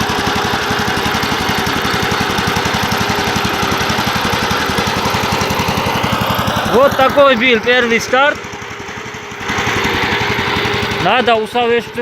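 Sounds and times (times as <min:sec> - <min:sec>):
single-cylinder petrol engine running: 0:00.0 - 0:12.0.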